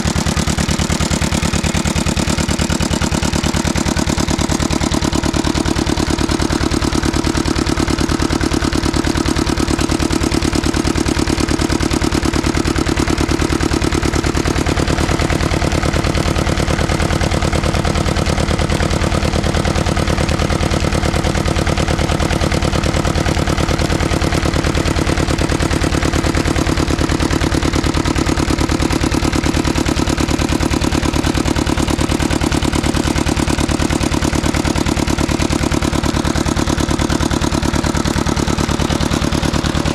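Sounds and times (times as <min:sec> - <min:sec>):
diesel engine knocking steadily: 0:00.0 - 0:39.9.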